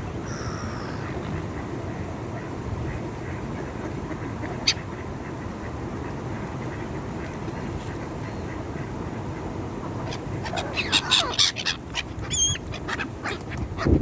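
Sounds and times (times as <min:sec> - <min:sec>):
flock of birds calling: 0:00.2 - 0:14.0.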